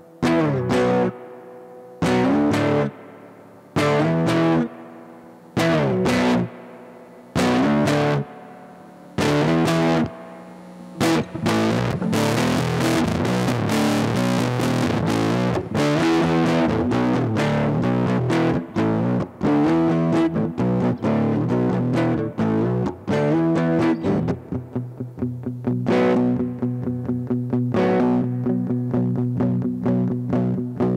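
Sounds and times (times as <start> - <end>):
distorted fuzz guitar chords: 0.0 - 30.9.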